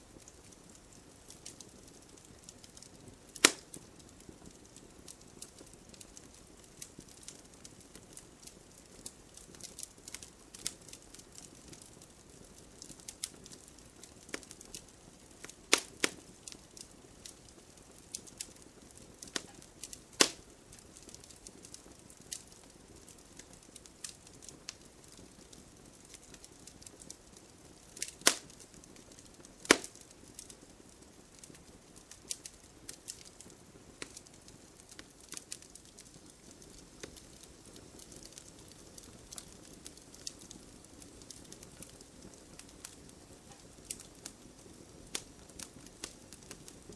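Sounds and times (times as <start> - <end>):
wood fire crackling: 0.0 - 46.9
loud fire pops: 0.2 - 46.9.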